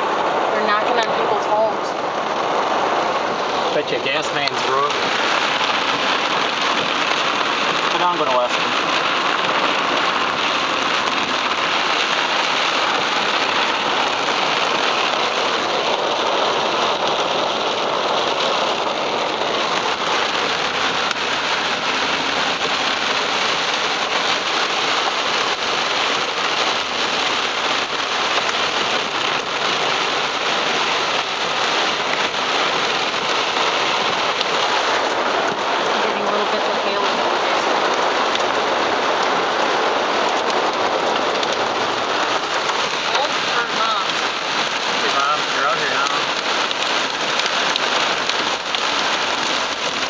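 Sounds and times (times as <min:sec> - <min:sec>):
heavy rain on car roof: 0:00.0 - 0:50.0.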